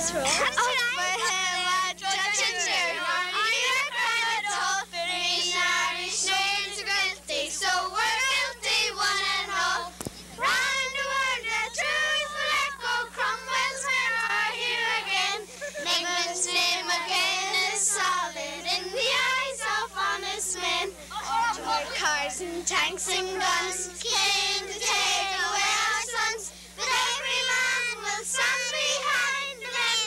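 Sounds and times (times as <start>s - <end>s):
children singing together: 0.4s - 30.0s.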